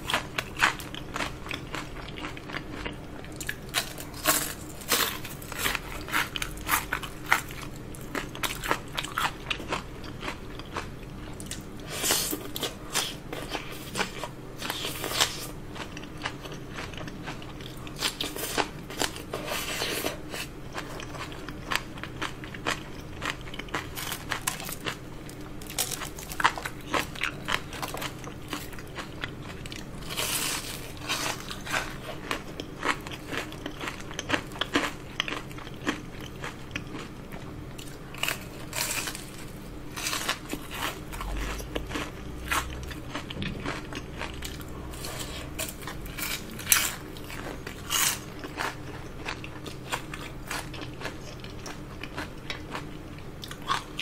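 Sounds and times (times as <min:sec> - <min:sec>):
crisp crunching and chewing: 0:00.0 - 0:54.0.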